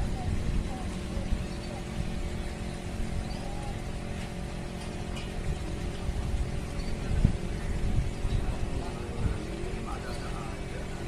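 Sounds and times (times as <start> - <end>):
faint mechanical hum: 0.0 - 11.0.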